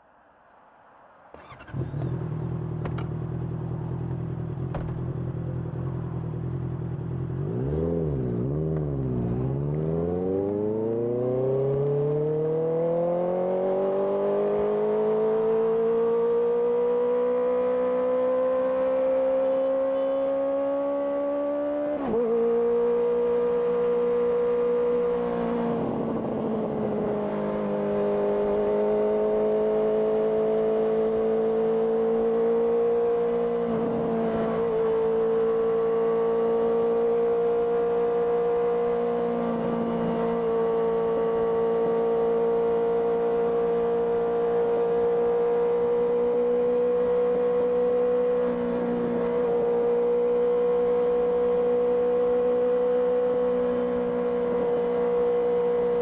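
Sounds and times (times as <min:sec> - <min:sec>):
motorcycle engine revving: 0:01.4 - 0:56.0.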